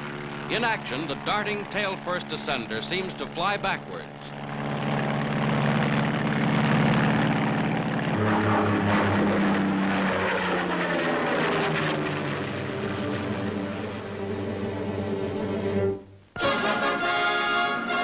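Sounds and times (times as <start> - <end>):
propeller aircraft engine droning: 0.0 - 18.0.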